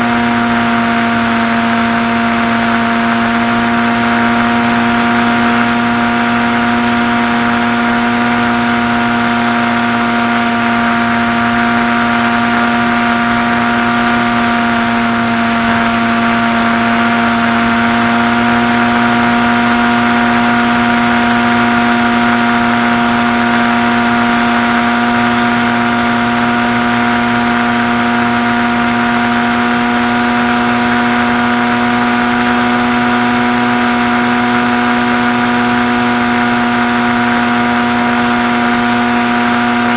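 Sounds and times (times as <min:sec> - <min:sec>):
model plane motor droning: 0:00.0 - 0:39.9.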